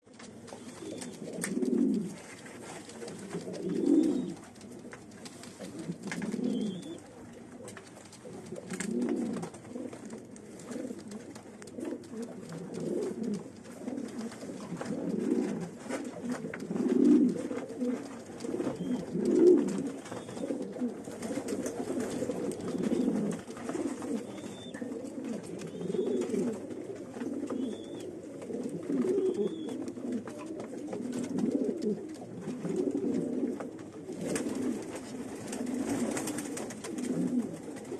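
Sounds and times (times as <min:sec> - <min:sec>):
pigeons cooing: 0:00.1 - 0:37.9.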